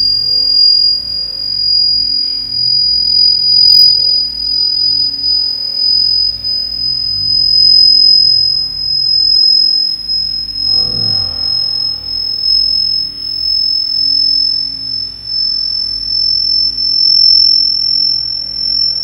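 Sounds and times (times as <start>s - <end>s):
high-pitched electronic tone: 0.0s - 19.0s.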